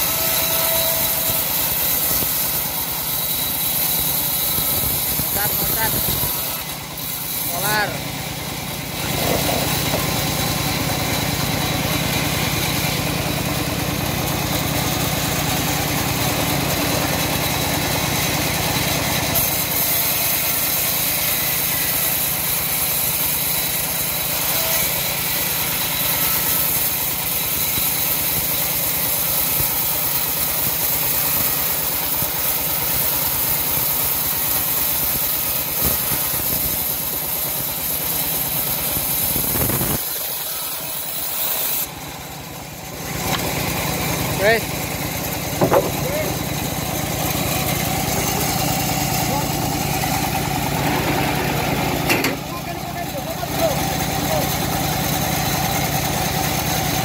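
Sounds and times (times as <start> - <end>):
bandsaw mill cutting a log: 0.0 - 57.0.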